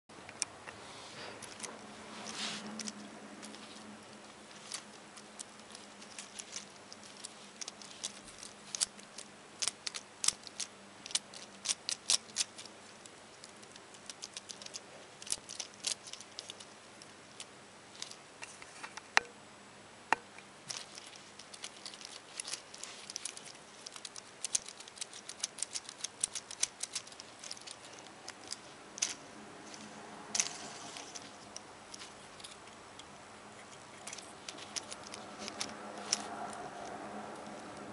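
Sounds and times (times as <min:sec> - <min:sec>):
plastic toy parts clicking: 0:01.4 - 0:19.3, 0:20.1 - 0:37.9.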